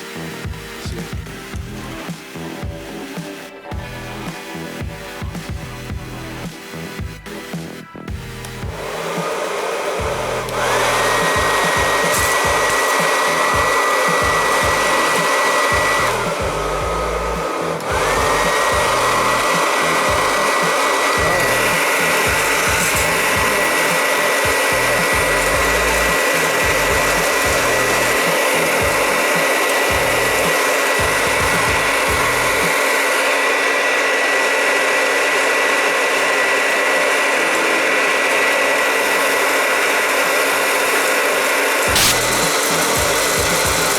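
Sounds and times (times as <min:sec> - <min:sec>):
hairdryer blowing air: 0:00.0 - 0:43.9.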